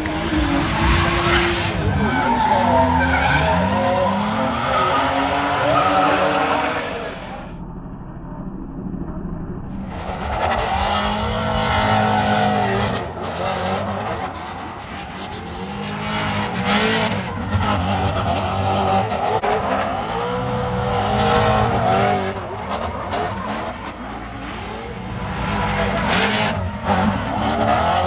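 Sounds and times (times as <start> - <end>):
tyres squealing and skidding: 0.0 - 7.6, 9.8 - 28.0
car engines revving: 0.0 - 7.7, 9.6 - 28.0.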